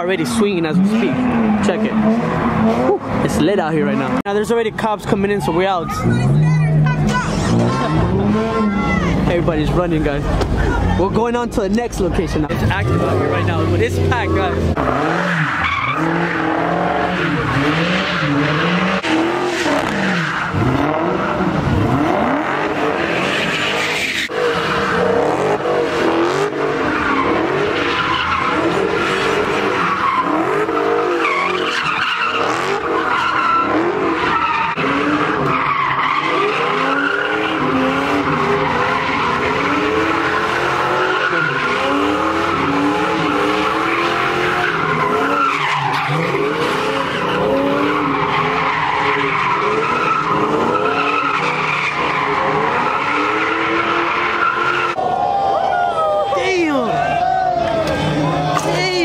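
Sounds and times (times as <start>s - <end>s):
car engines revving: 0.0s - 59.0s
tires screeching: 0.0s - 59.0s.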